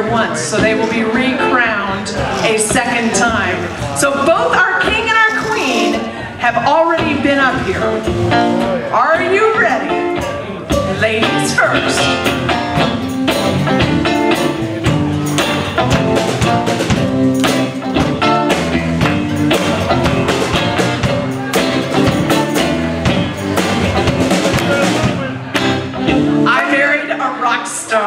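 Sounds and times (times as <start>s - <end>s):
drum kit beat: 0.0s - 27.0s
guitar: 0.0s - 28.0s
live band playing upbeat song: 0.0s - 28.0s.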